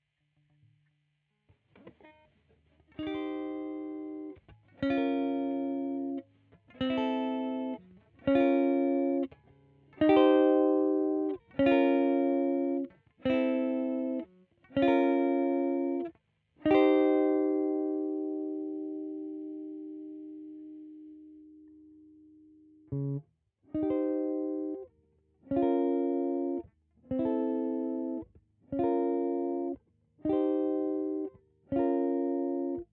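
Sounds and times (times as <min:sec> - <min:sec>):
soft plucked guitar notes: 0:01.7 - 0:32.9
electric guitar chords: 0:01.8 - 0:32.9.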